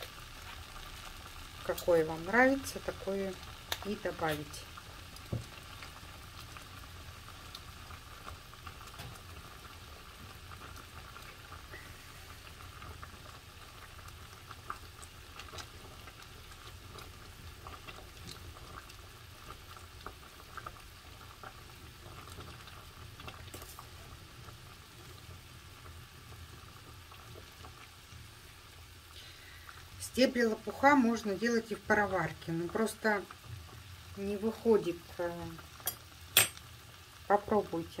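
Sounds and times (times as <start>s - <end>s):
water bubbling in a pot: 0.0s - 38.0s.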